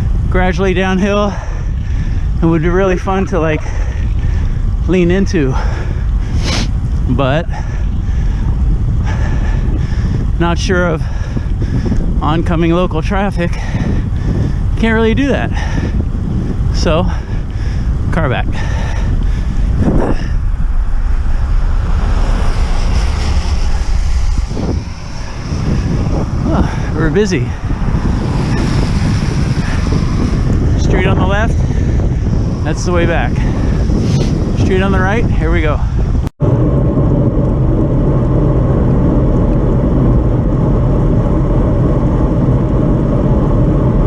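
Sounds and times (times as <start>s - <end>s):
low rumble: 0.0s - 44.0s
wind buffeting microphone: 0.0s - 44.0s.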